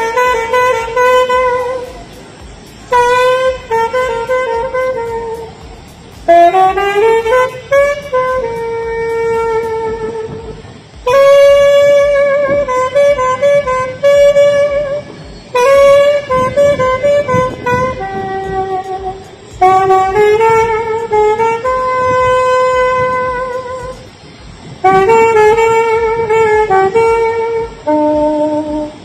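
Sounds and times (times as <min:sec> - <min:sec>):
alto saxophone melody: 0:00.0 - 0:29.0.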